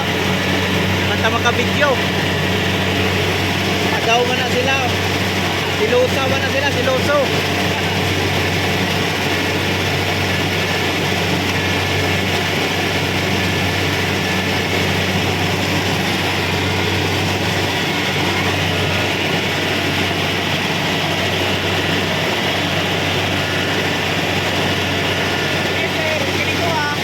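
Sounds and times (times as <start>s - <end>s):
harvester engine deep hum: 0.0s - 27.0s.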